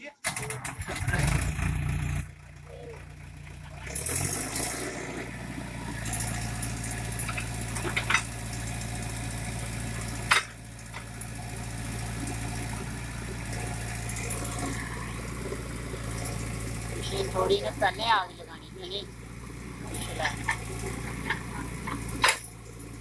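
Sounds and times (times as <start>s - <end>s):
diesel engine running: 0.3s - 23.0s.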